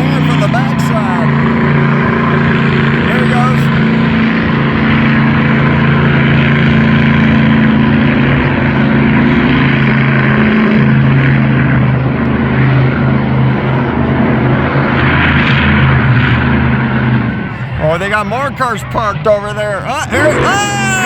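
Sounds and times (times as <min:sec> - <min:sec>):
loud truck engine running: 0:00.0 - 0:21.0.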